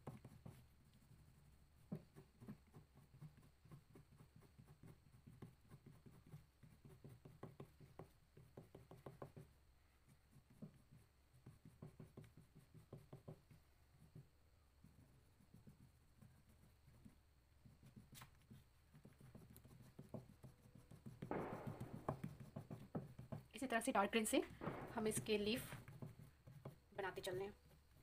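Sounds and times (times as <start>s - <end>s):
oil pastel scratching on paper: 0.0s - 28.0s.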